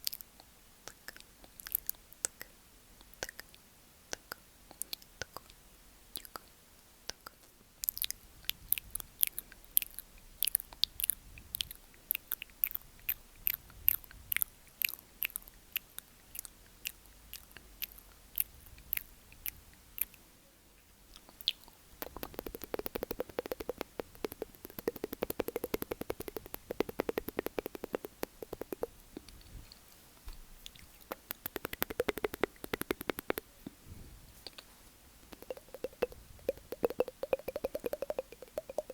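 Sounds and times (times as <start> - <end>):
wet mouth clicks: 0.0 - 6.5, 7.1 - 20.2, 21.1 - 29.6, 30.6 - 33.8, 34.4 - 38.9.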